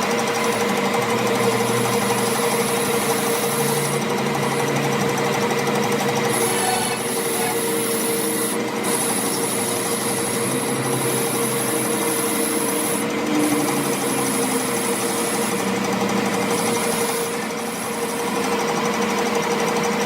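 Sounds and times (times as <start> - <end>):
power tool whining on metal: 0.0 - 20.0.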